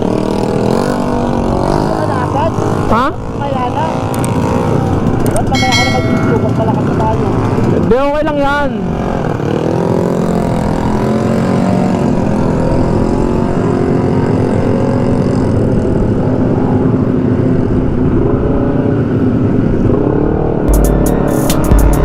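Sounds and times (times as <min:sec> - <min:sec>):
motor scooter engine at speed: 0:00.0 - 0:22.0.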